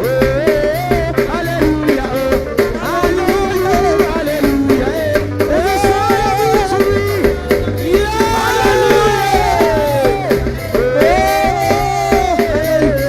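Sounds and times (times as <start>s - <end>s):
upbeat gospel music: 0.0s - 13.0s.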